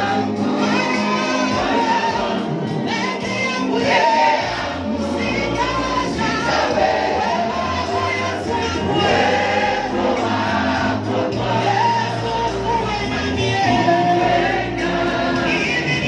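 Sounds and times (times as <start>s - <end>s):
choir singing gospel: 0.0s - 16.0s
instrumental backing with bass: 0.0s - 16.0s.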